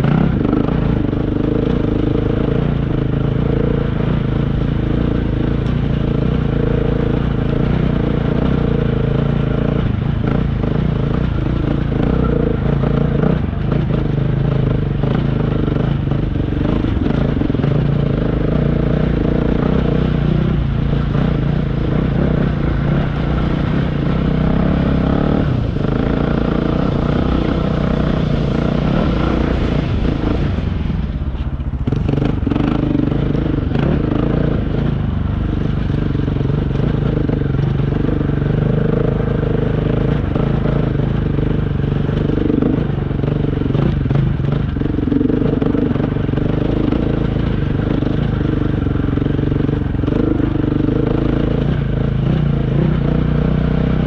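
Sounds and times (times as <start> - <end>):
motorcycle engine revving under load: 0.0 - 54.0.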